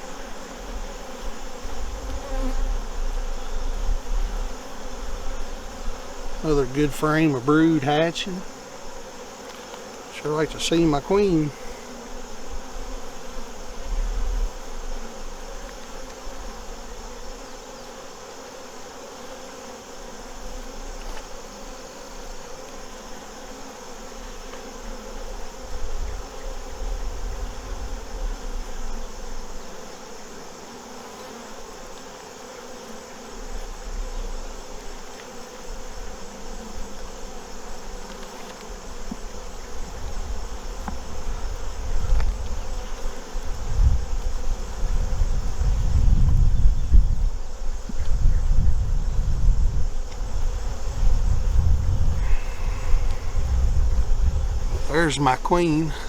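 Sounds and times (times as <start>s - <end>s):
honey bees buzzing: 0.0s - 56.0s.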